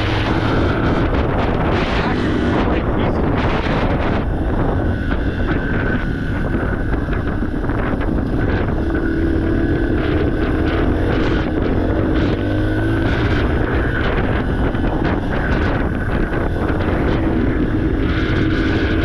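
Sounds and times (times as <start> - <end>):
dirt bike engine running: 0.0 - 19.0
wind buffeting microphone: 0.0 - 19.0.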